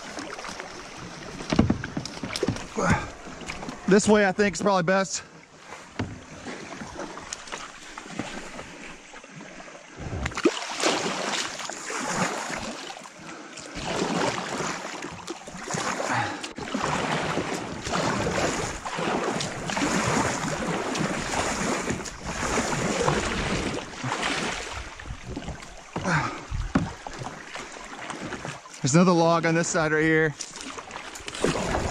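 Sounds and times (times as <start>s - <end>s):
water splashing around kayak: 0.0s - 31.9s.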